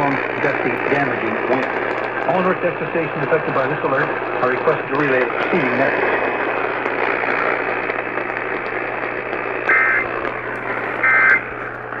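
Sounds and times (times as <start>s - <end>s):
radio static hiss and hum: 0.0s - 12.0s.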